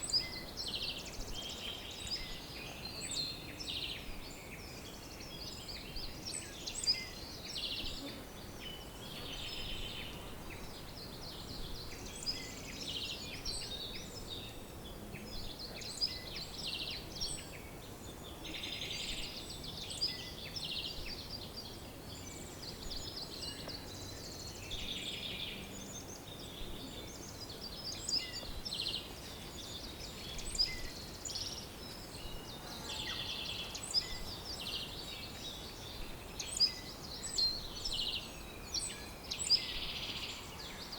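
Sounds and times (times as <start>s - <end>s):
faint background hiss: 0.0s - 40.9s
songbirds chirping and trilling: 0.0s - 40.9s.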